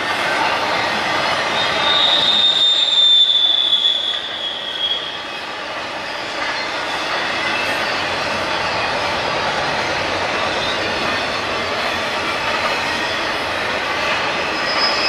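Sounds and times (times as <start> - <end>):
train cars running over track: 0.0 - 15.0
train wheels squealing: 0.0 - 15.0.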